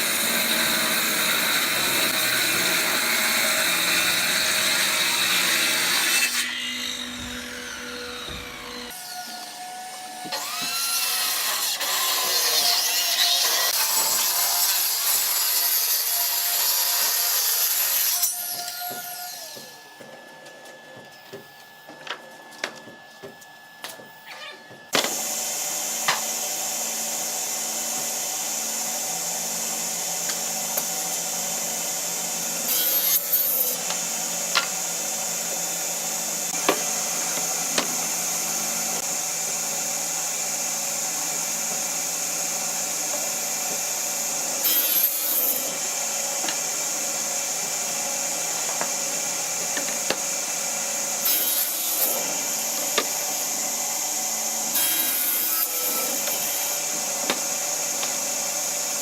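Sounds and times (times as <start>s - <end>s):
power saw cutting wood: 0.0s - 20.0s, 24.9s - 59.0s.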